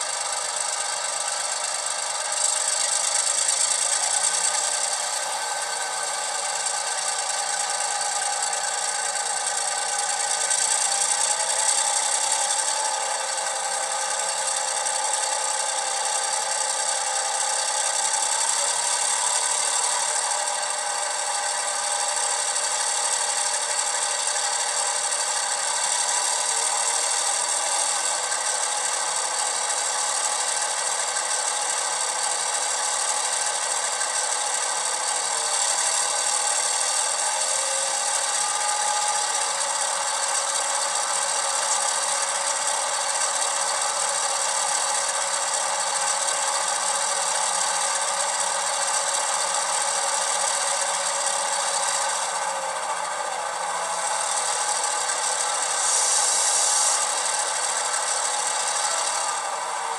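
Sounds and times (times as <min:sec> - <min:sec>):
diesel engine sound from small speakers: 0:00.0 - 0:59.9.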